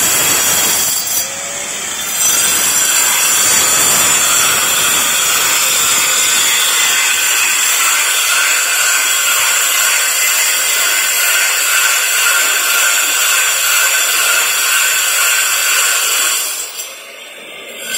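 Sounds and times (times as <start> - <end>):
angle grinder cutting metal: 0.0 - 17.9.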